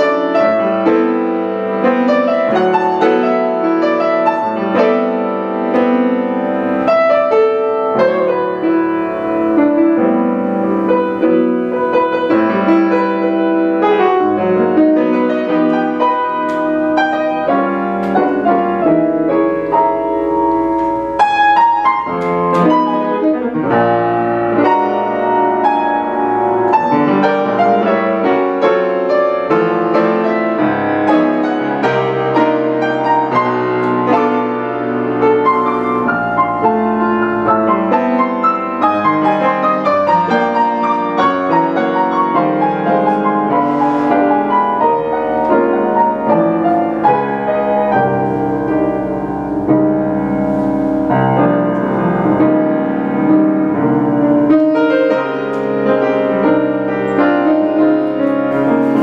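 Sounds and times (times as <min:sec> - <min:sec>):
jazz piano solo: 0:00.0 - 0:59.0.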